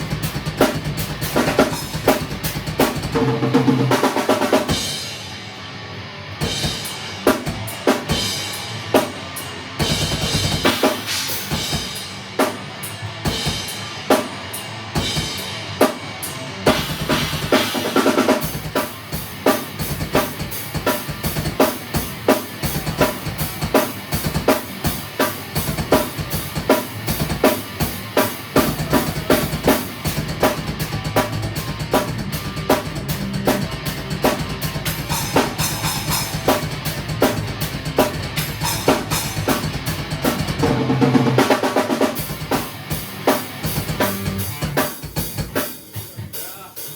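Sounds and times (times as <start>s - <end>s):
drum kit playing: 0.0s - 46.9s.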